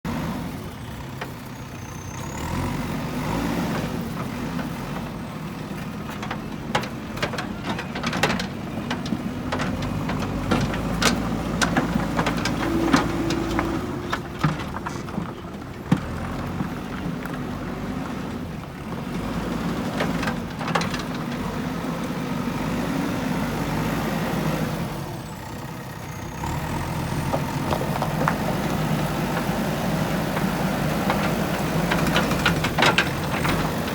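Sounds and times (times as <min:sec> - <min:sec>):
diesel engine working: 0:00.1 - 0:33.9.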